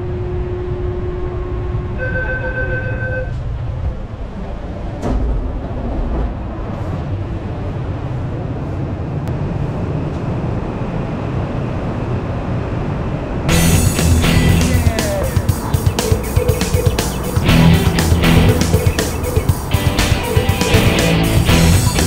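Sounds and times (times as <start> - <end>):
moving vehicle rumble: 0.0 - 22.0.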